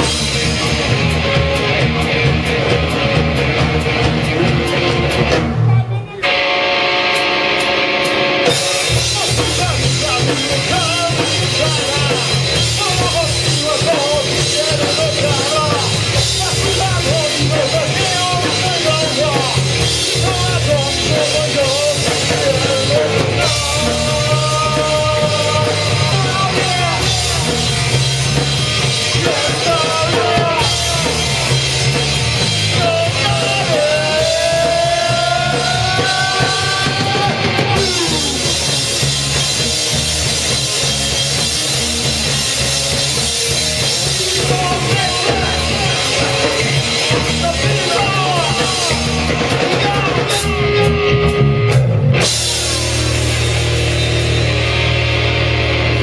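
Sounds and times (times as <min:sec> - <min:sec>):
drum kit: 0:00.0 - 0:56.0
rock band playing live: 0:00.0 - 0:56.0.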